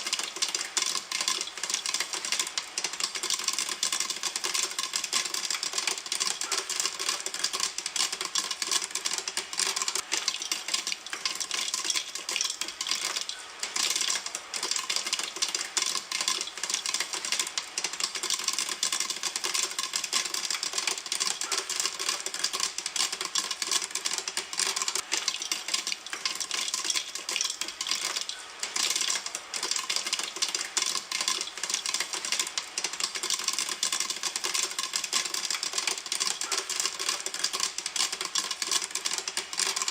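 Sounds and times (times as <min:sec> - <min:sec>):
popcorn popping in a pan: 0:00.0 - 0:39.9.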